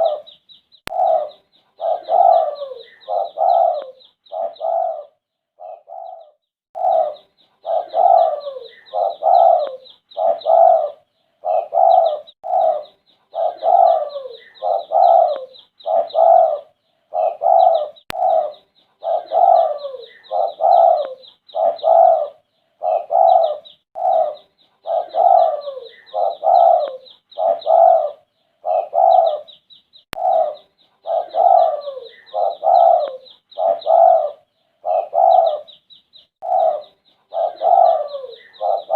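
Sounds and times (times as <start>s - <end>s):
dove cooing: 0.0s - 29.6s, 30.2s - 35.8s, 36.4s - 38.9s.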